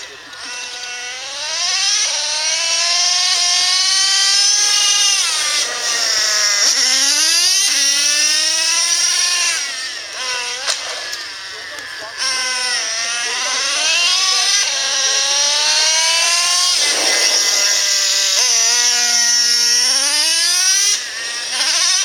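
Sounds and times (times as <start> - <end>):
electric toy car motor whining: 0.0 - 22.0.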